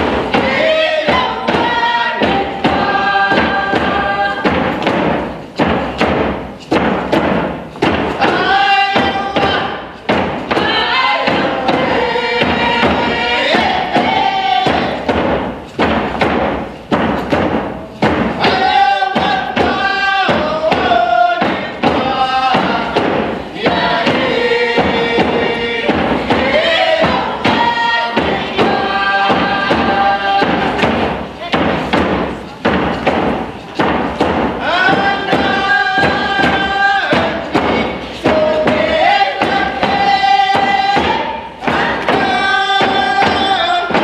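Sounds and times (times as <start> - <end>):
group of voices singing: 0.0 - 5.4, 7.8 - 15.6, 18.0 - 44.0
hand drums beating: 0.0 - 44.0.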